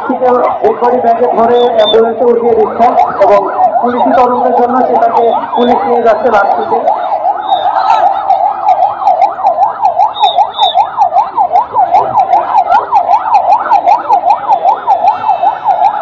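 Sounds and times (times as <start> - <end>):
electronic siren yelping: 0.0 - 16.0.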